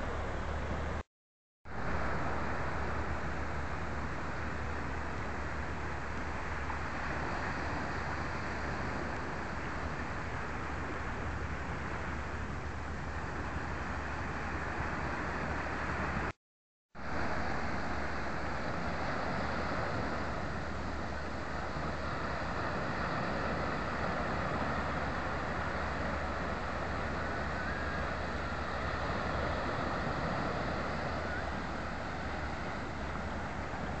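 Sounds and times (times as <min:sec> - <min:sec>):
rushing seaside ambience: 0:00.0 - 0:01.1, 0:01.7 - 0:16.4, 0:17.0 - 0:34.0.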